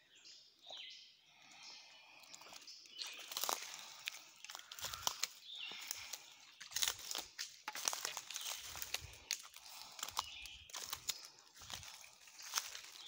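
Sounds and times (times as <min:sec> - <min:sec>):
footsteps crunching dry leaves: 0:02.2 - 0:13.0.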